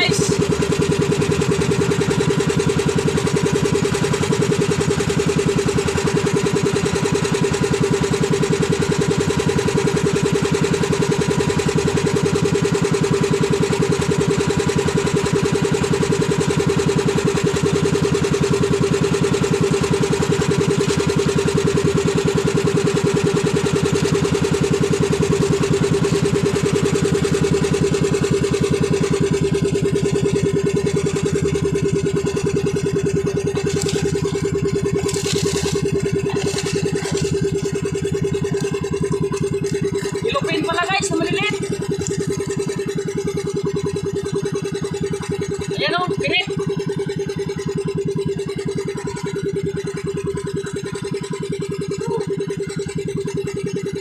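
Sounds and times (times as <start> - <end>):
boat engine running steadily: 0.0 - 54.0.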